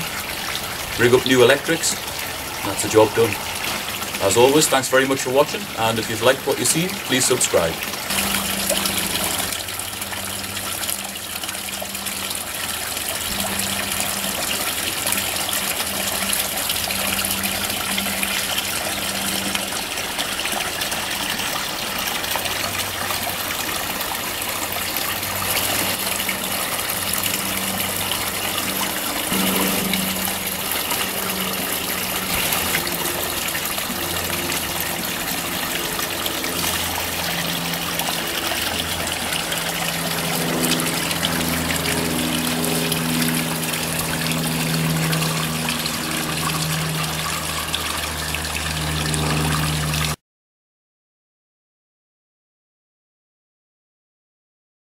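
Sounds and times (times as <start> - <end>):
water pouring into pond: 0.0 - 50.2.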